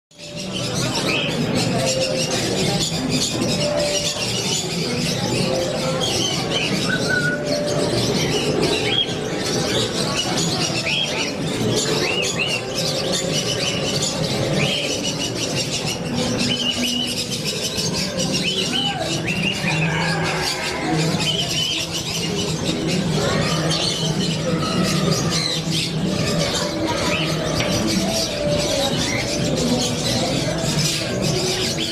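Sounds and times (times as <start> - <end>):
parrots chirping and squawking: 0.2 - 31.9.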